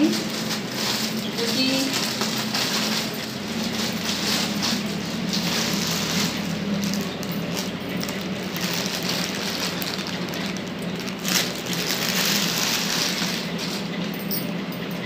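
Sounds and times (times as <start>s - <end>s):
plastic packaging crinkling: 0.0s - 14.1s
steady low hum: 0.0s - 15.0s.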